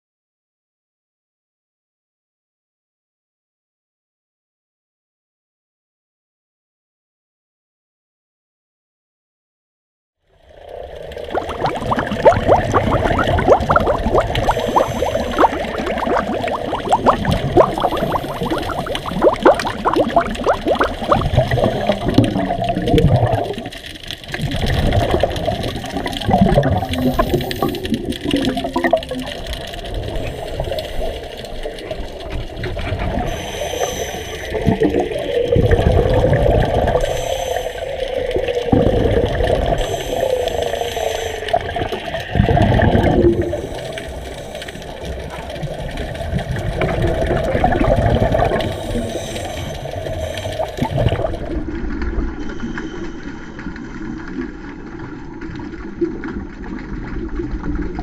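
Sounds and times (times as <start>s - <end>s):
underwater exhaled bubbles gurgling: 10.4s - 58.0s.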